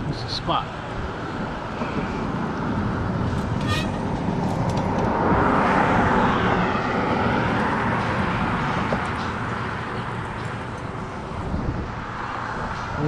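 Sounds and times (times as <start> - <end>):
vehicle driving past: 1.8 - 13.0.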